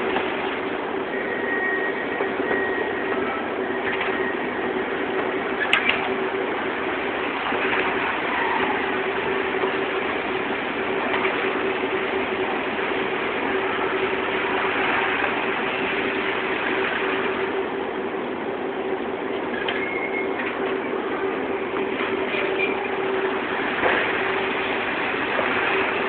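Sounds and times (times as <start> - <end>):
machine whirring and humming: 0.0 - 26.0.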